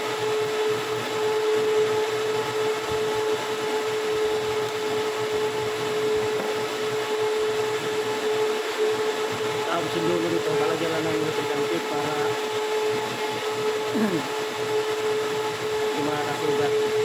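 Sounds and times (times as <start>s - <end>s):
machine whining and humming: 0.0s - 17.0s.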